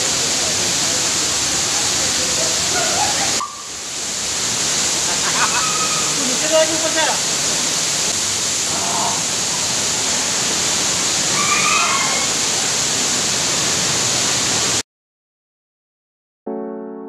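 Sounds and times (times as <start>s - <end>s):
waterfall roaring: 0.0s - 14.8s.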